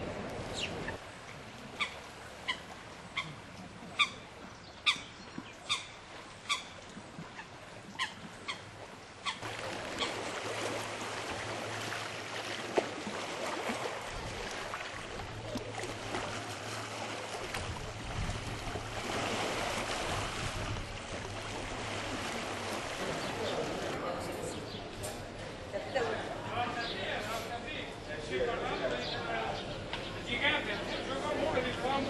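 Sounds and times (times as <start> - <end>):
lake water noise: 0.0 - 32.0.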